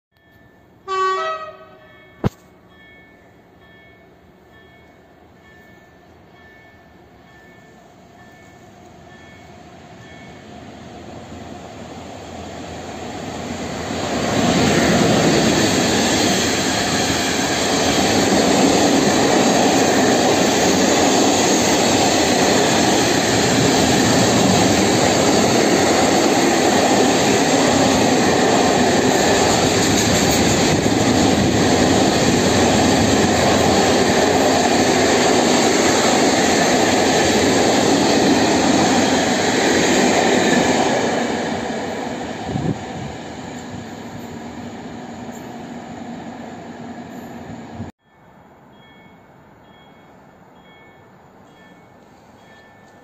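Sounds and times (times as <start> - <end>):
freight train wheels roaring on rail: 0.2 - 48.0
electric locomotive passing: 0.2 - 53.0.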